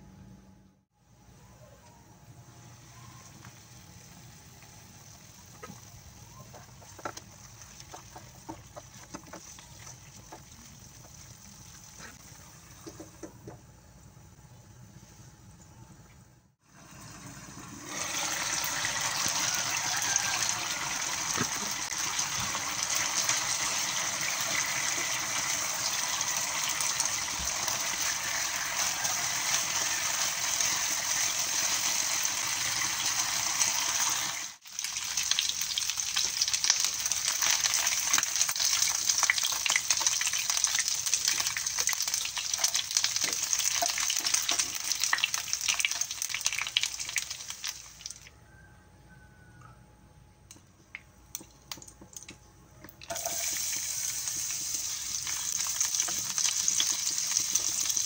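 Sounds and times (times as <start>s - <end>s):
chicken wings sizzling in a pan: 2.4s - 12.8s, 16.7s - 48.3s, 53.1s - 58.0s.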